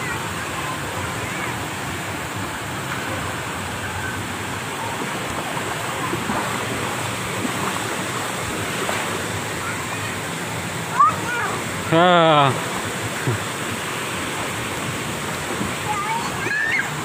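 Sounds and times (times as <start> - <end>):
water splashing in pool: 0.0 - 17.0.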